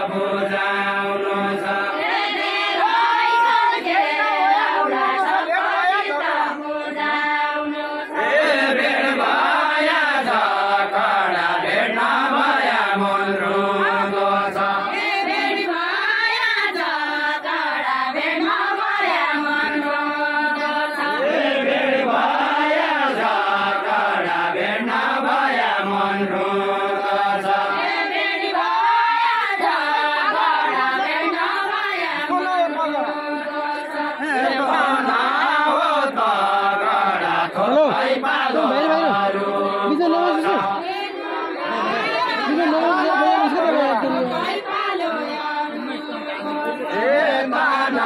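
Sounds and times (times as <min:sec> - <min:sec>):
voices singing folk song: 0:00.0 - 0:48.0.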